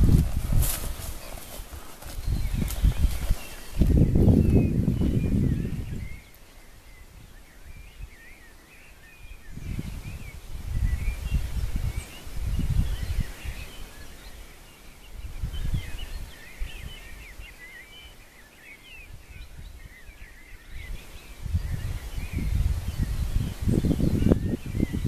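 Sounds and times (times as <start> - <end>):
wind rumbling on microphone: 0.0 - 8.4, 9.0 - 18.1, 18.9 - 25.0
songbirds chirping and singing: 0.0 - 25.0.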